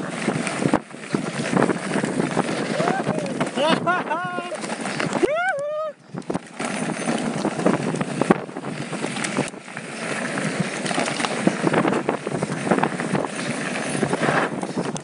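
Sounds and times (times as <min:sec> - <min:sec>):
tyres crunching on gravel: 0:00.0 - 0:05.4, 0:06.2 - 0:15.0
bike rattling: 0:00.0 - 0:15.0
wind on microphone: 0:00.0 - 0:15.0.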